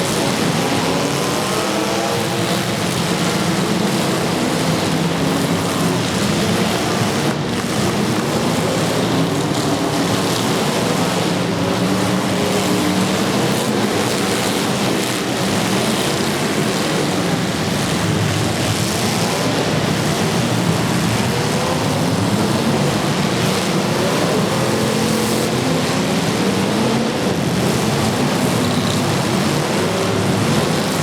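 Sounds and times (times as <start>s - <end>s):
car engines running loud: 0.0s - 31.0s
engines revving: 0.0s - 31.0s.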